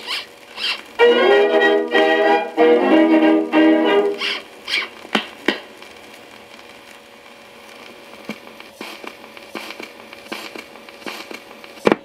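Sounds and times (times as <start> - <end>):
record surface hiss: 0.0 - 12.0.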